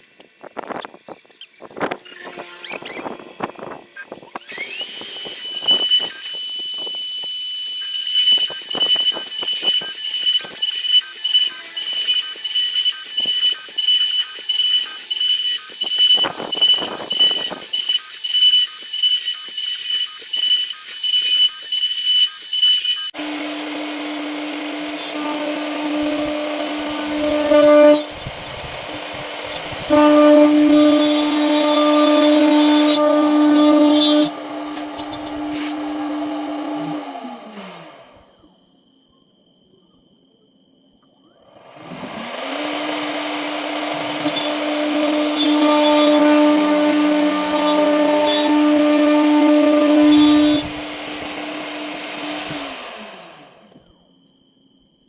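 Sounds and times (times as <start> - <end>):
router spindle whining: 0.1 - 38.5, 41.7 - 54.0.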